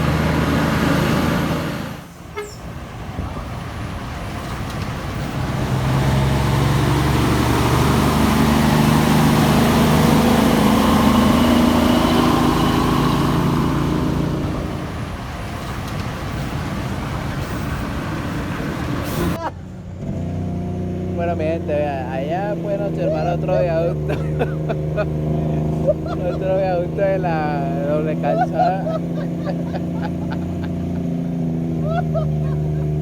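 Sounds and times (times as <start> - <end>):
truck diesel engine from cab: 0.0 - 33.0.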